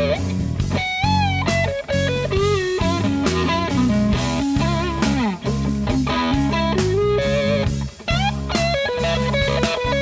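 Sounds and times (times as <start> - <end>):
blues electric guitar: 0.0 - 10.0.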